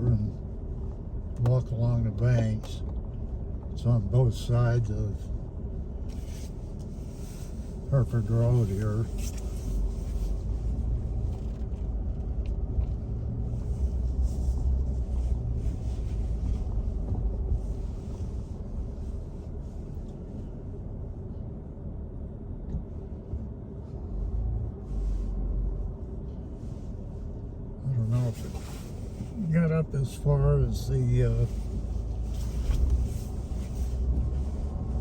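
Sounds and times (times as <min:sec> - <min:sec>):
vehicle rumble heard from inside: 0:00.0 - 0:35.0.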